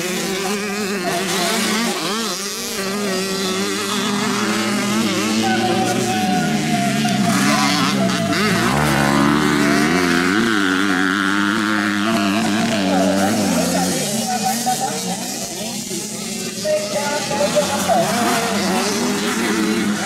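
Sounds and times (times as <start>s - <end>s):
dirt bike engine revving: 0.0s - 20.0s
higher-pitched engine: 0.0s - 20.0s.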